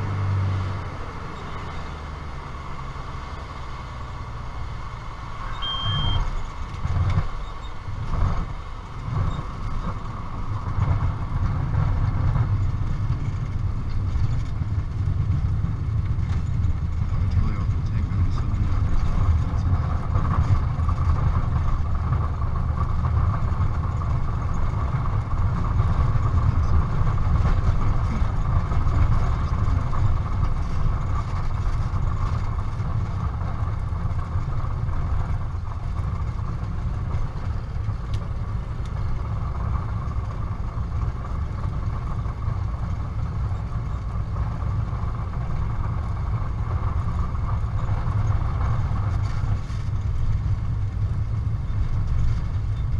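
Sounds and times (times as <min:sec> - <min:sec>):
light aircraft engine drone: 0:04.2 - 0:52.9.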